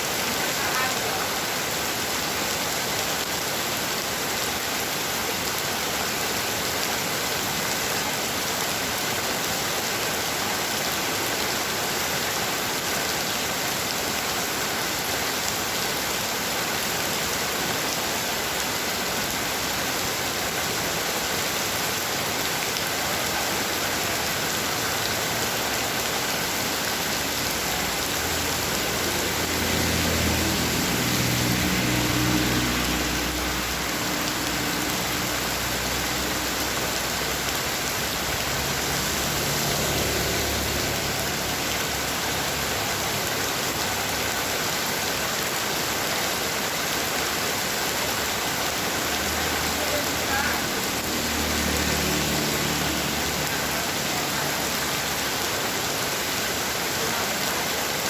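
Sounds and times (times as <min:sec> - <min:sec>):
heavy rain hissing: 0:00.0 - 0:58.0.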